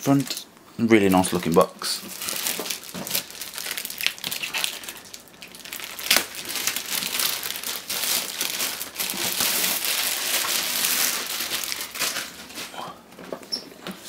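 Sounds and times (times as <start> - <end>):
packaging crinkling and rustling: 0.0 - 0.5, 1.1 - 14.0.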